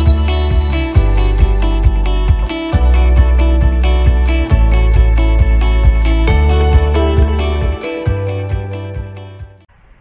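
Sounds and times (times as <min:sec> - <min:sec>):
guitar-led music with bass: 0:00.0 - 0:09.7.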